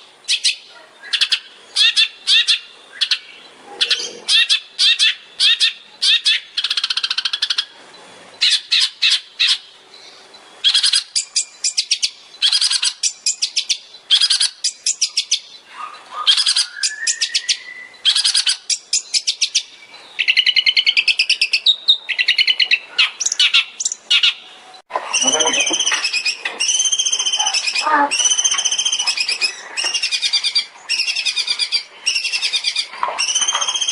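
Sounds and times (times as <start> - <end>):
bird singing rapid trills: 0.0 - 7.8, 8.4 - 33.9.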